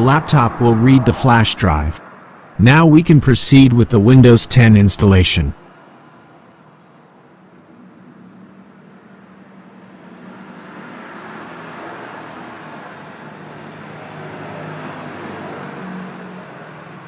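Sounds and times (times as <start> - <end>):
broad rushing traffic sound: 0.0 - 17.0.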